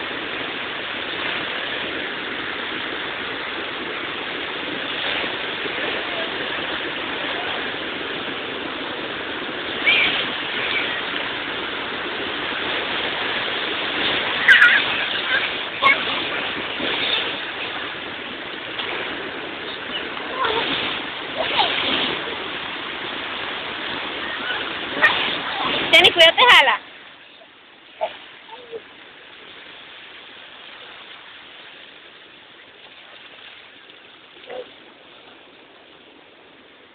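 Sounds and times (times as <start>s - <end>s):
surf washing over sand: 0.0s - 36.9s.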